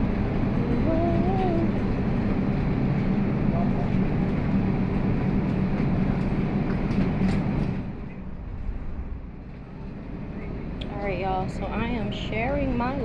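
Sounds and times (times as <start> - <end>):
vehicle rumble in motion: 0.0 - 13.0.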